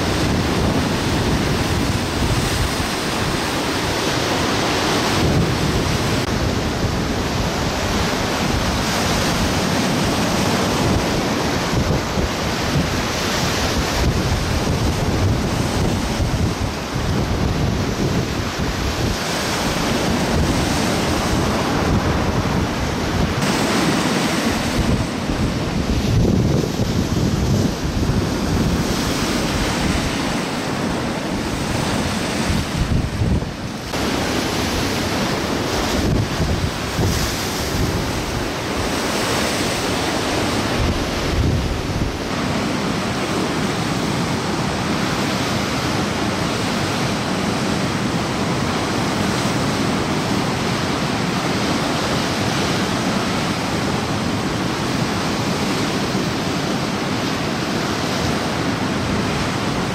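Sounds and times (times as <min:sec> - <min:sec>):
lake waves breaking: 0:00.0 - 0:59.9
wind buffeting microphone: 0:00.0 - 0:59.9.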